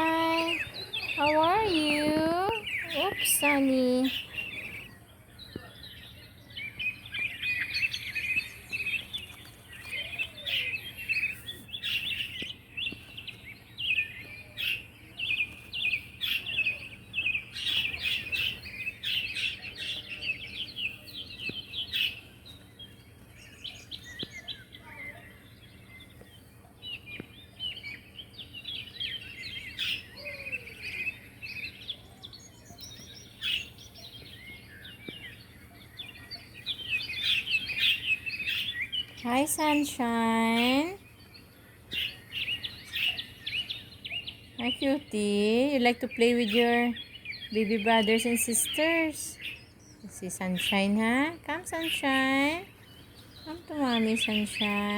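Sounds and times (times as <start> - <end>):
young birds chirping: 0.0 - 54.9.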